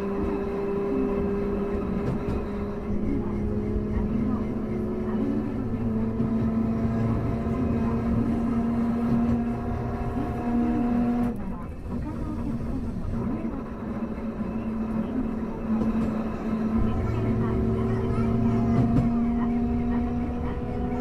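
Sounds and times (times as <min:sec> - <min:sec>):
tram motor hum with high tones: 0:00.0 - 0:21.0
wheels rumbling on rail: 0:00.0 - 0:21.0.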